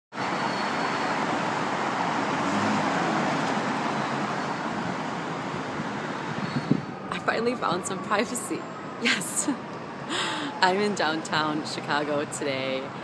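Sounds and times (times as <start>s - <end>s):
city street traffic: 0.1s - 13.0s.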